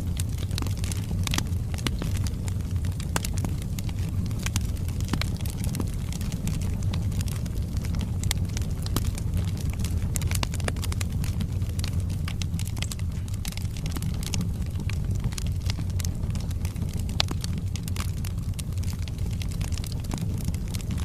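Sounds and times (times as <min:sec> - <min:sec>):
fire rumbling: 0:00.0 - 0:21.0
logs crackling and popping: 0:00.0 - 0:21.0.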